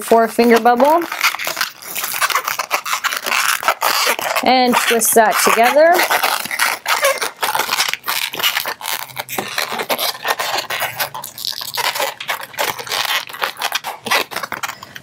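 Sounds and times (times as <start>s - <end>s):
balloon rubbing and scraping: 0.0s - 15.0s.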